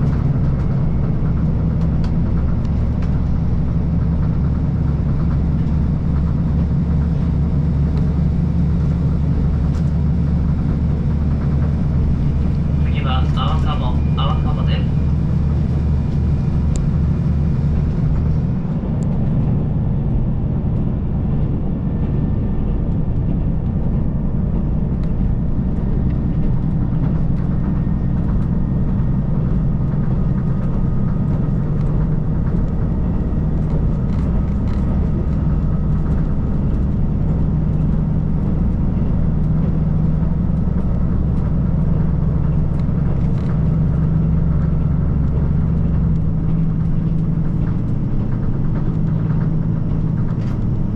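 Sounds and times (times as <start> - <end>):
diesel train engine drone: 0.0 - 50.9
rail rumble: 0.0 - 50.9.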